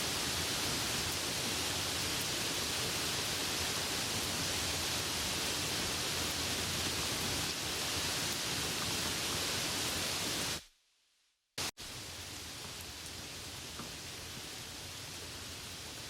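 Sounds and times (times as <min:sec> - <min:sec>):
rain hissing: 0:00.0 - 0:10.7, 0:11.6 - 0:16.0.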